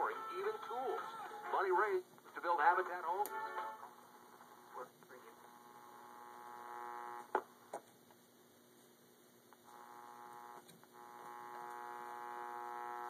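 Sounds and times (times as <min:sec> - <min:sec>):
radio speaker buzzing hum: 0:00.0 - 0:07.9, 0:09.4 - 0:13.0.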